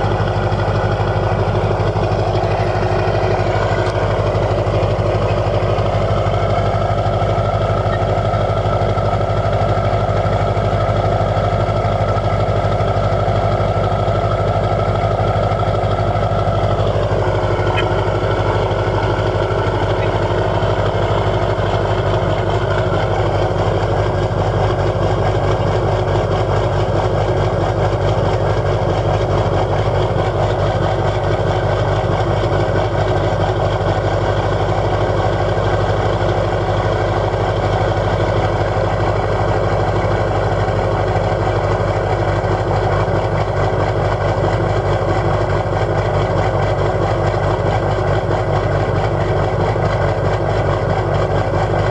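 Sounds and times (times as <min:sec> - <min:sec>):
diesel engine lopey idle: 0:00.0 - 0:51.9.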